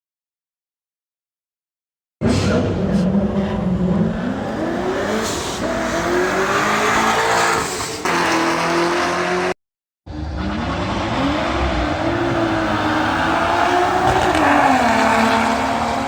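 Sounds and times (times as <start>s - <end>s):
car engine revving hard: 2.3s - 16.0s.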